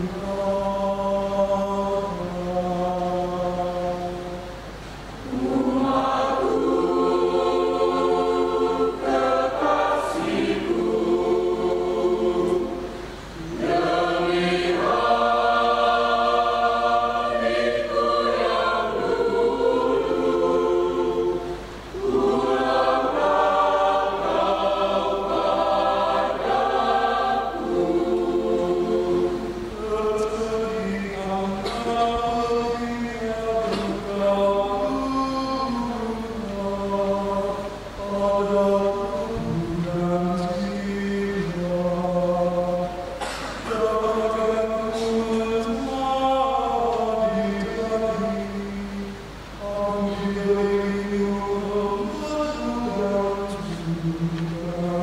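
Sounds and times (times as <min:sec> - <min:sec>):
mixed choir singing a hymn: 0:00.0 - 0:55.0.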